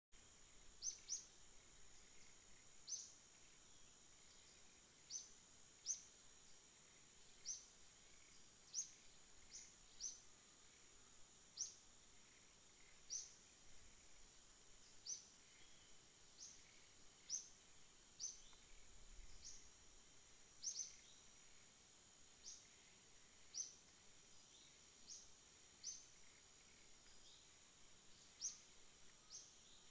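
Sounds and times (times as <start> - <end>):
high insect drone: 0.2 - 29.9.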